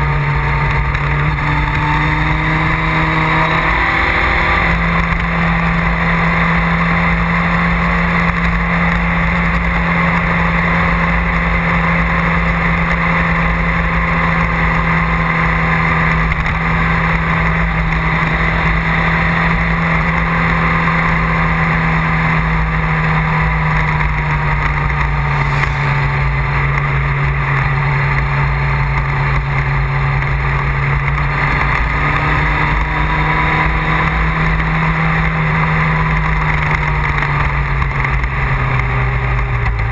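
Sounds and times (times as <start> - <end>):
vehicle engine running: 0.0 - 39.9
wind rushing over microphone: 0.0 - 39.9.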